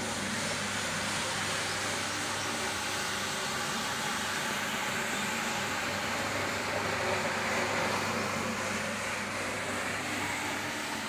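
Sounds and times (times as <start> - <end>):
floor scrubber motor hum: 0.0 - 11.0.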